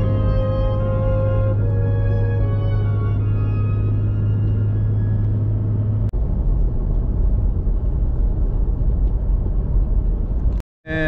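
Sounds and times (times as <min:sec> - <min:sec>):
road and engine rumble: 0:00.0 - 0:11.0.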